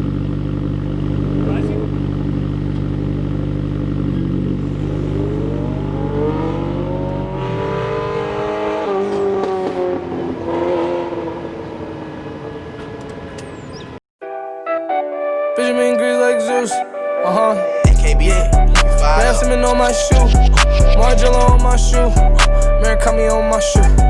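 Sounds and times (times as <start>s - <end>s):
car engine idling and revving: 0.0s - 14.0s, 17.9s - 24.0s.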